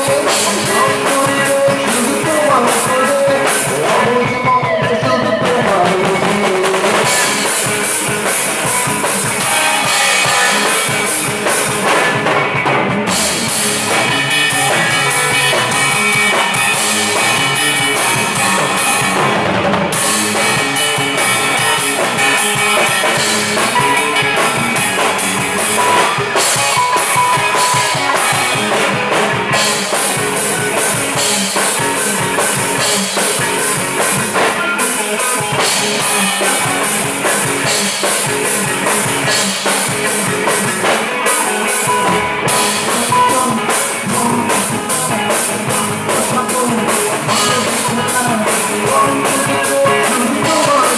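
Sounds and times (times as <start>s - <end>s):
drum kit with cymbals: 0.0s - 50.9s
electric guitars: 0.0s - 50.9s.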